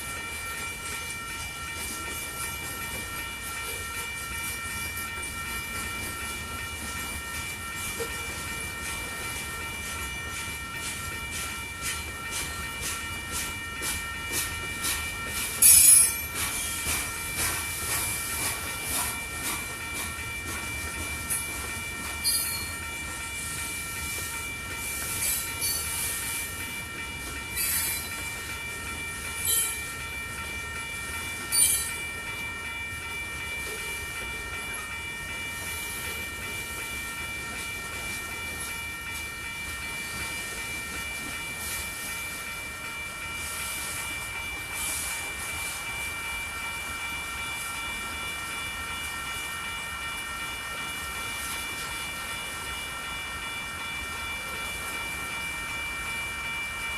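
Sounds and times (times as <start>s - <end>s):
freight train cars rolling: 0.0s - 56.9s.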